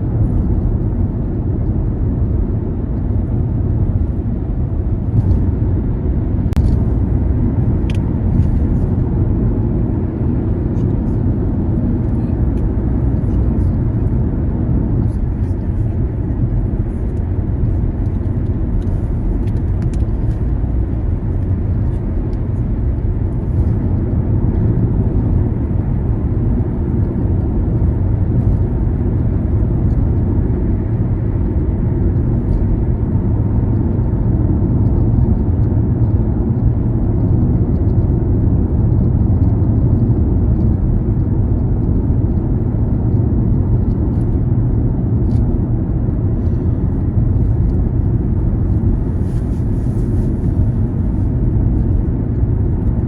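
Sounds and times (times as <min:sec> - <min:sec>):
car road noise rumble: 0:00.0 - 0:53.0.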